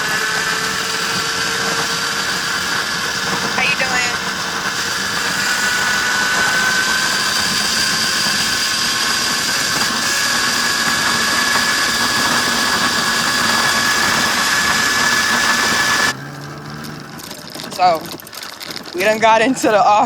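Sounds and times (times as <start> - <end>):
electric dirt bike motor whining: 0.0 - 20.0
wind and tyre noise: 0.0 - 20.0.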